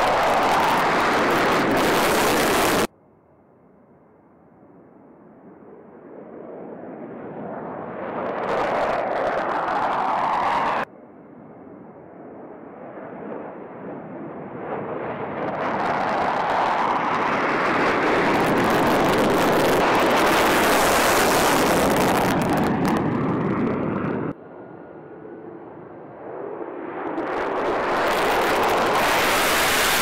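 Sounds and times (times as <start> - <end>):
fighter jet taking off: 0.0 - 2.9, 5.4 - 10.9, 11.7 - 30.0.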